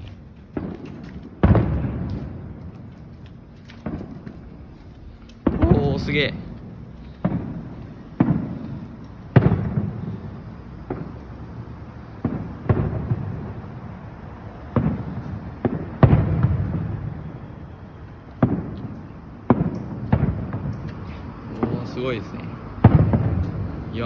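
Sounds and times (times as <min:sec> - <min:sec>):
fireworks bursting with booms: 0:00.0 - 0:02.9, 0:03.7 - 0:04.6, 0:05.4 - 0:22.0, 0:22.8 - 0:24.0.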